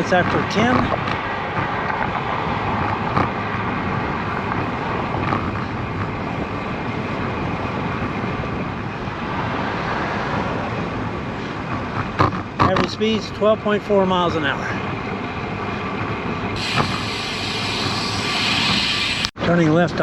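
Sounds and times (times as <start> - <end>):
bicycle road noise: 0.0 - 20.0.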